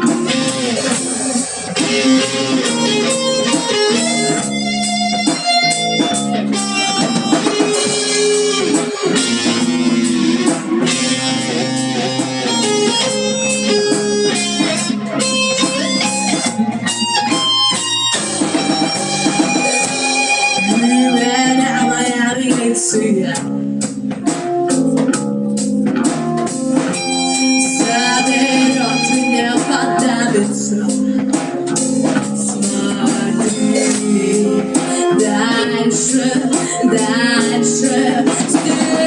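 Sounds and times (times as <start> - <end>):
blues guitar picking: 0.0 - 39.0.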